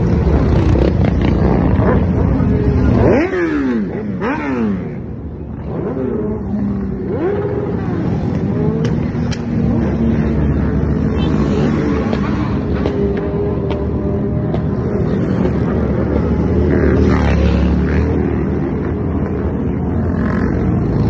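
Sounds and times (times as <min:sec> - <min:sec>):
motorcycles riding past: 0:00.0 - 0:21.0.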